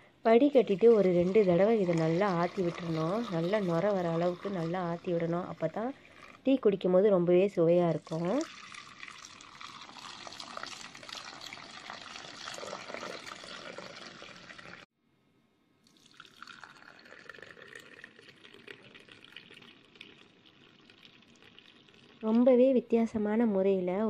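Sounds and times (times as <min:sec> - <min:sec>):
tea pouring into tumbler: 0:00.5 - 0:06.6, 0:07.9 - 0:14.9, 0:15.8 - 0:22.8
tea pouring and splashing into bowl: 0:00.6 - 0:06.5, 0:08.0 - 0:14.9, 0:15.8 - 0:22.6.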